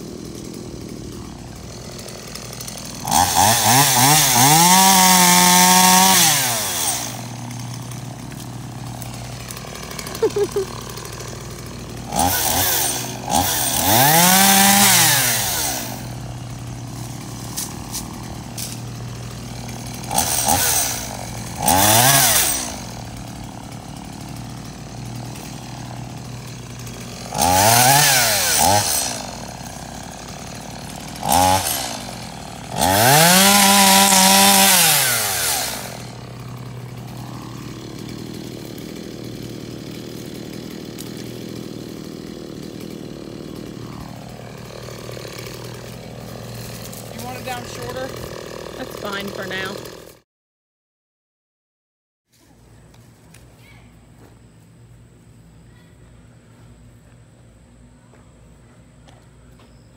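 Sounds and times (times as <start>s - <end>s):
chainsaw revving and idling: 0.0s - 50.2s.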